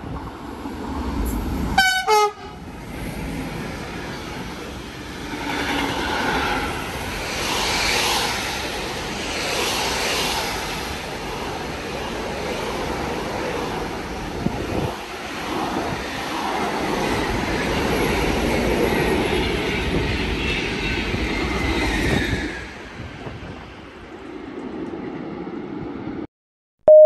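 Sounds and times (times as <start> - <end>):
train wheels rumbling on rail: 0.0 - 25.1.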